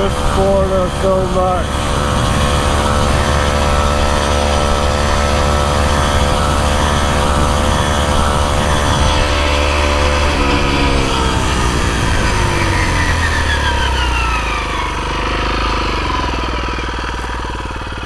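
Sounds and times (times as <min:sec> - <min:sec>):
motorbike engine running: 0:00.0 - 0:18.0
wind buffeting microphone: 0:00.0 - 0:18.0.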